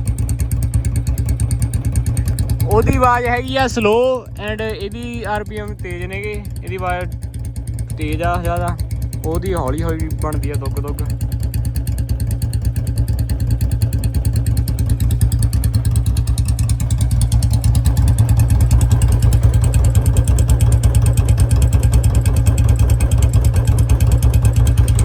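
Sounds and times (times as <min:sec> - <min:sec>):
motorcycle engines idling: 0:00.0 - 0:25.0.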